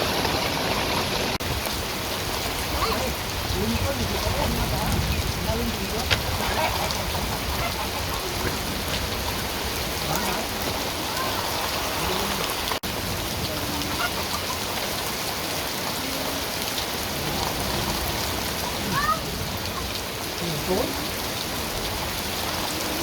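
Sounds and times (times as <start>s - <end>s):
rain pattering on surfaces: 0.0s - 23.0s.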